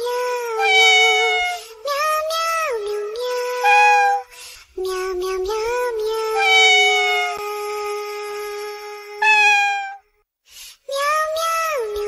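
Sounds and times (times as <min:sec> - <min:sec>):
meow-like singing voice: 0:00.0 - 0:10.0.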